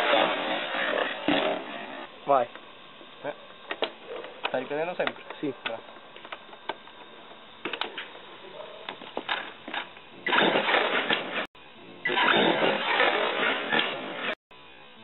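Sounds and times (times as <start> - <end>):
electric motor and tyre noise: 0.0 - 14.4.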